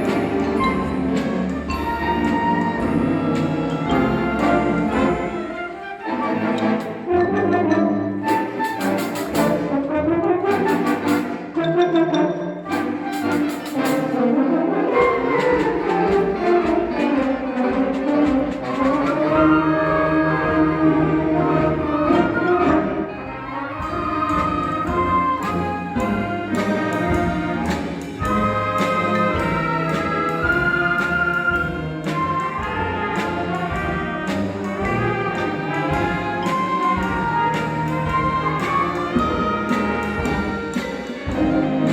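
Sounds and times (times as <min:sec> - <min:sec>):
brass melody: 0:00.0 - 0:41.9
symphonic band playing: 0:00.0 - 0:41.9.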